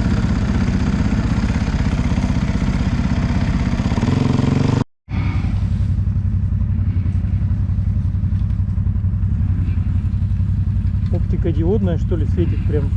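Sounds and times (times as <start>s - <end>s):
off-road vehicle engine running: 0.0s - 12.9s.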